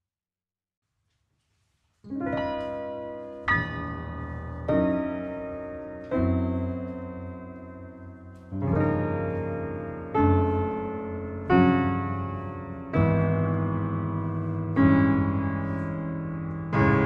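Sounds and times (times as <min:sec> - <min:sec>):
grand piano chords: 0:02.0 - 0:17.0.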